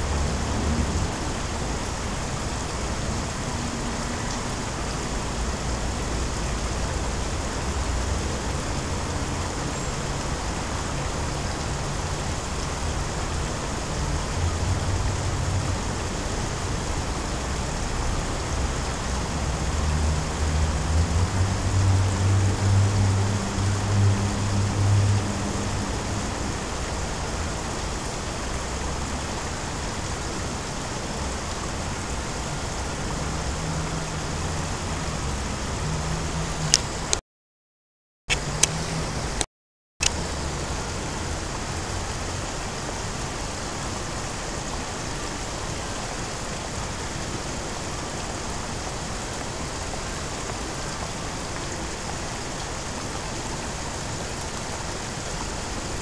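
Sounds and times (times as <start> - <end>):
rushing outdoor background noise: 0.0 - 37.2, 38.3 - 56.0.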